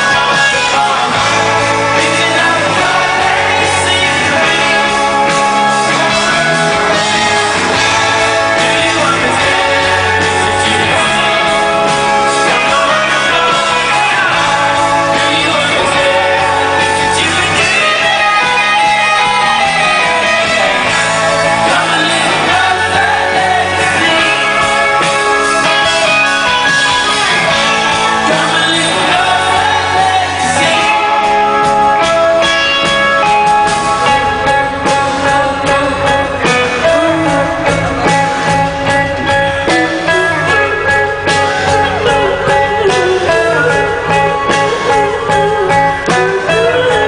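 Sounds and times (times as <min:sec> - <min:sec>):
live rock band: 0:00.0 - 0:47.0
man singing lead vocals: 0:00.0 - 0:47.0.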